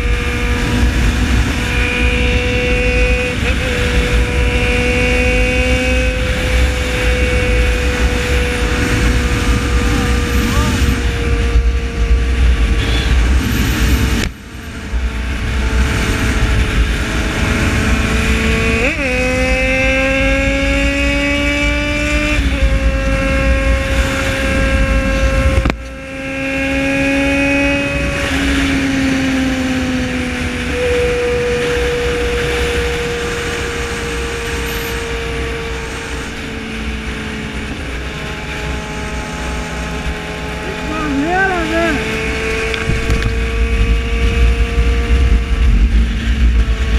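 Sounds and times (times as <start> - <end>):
wind rumble on microphone: 0.0 - 40.8, 41.7 - 46.9
motorcycle engine at speed: 0.0 - 46.9.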